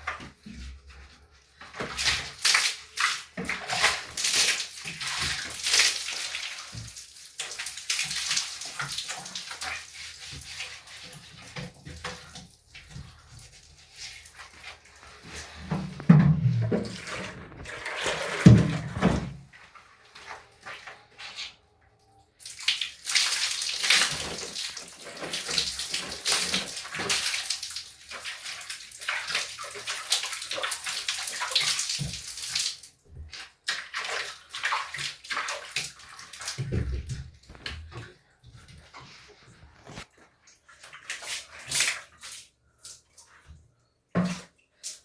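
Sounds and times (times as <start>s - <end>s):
water splashing and pouring: 0.0s - 21.4s, 22.4s - 43.6s.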